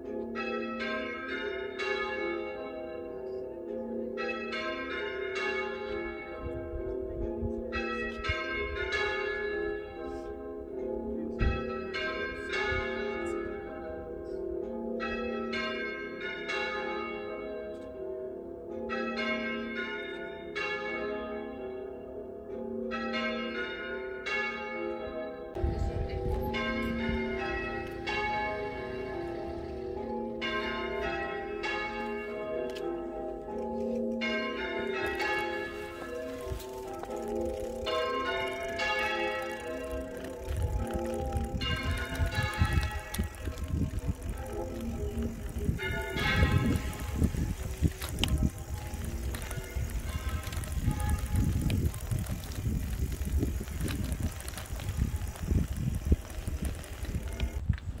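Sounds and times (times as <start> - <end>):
church bells ringing: 0.0 - 57.6.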